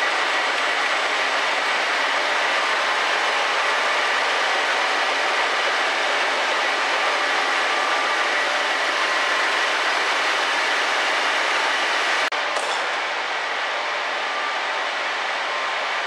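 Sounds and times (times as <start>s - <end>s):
printing press running: 0.0s - 16.0s.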